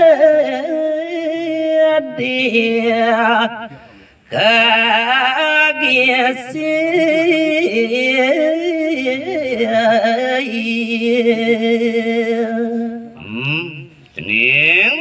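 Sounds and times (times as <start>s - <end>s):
man singing into a microphone: 0.0s - 14.4s.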